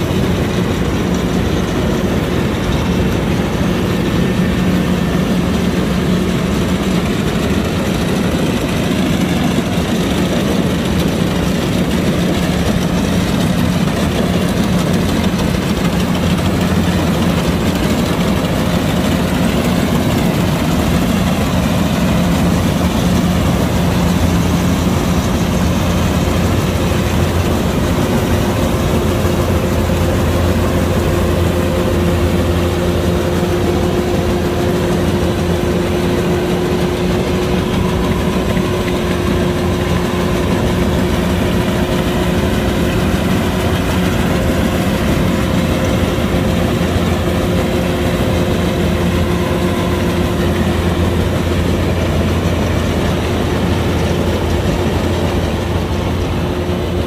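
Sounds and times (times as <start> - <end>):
diesel engine droning: 0.0 - 57.0
steady whining tones: 0.0 - 57.0.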